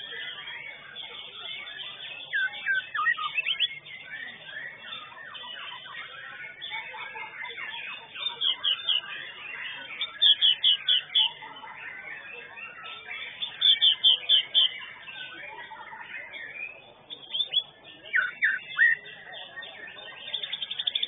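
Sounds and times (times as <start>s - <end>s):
songbird whistling and chirping: 0.0s - 21.0s.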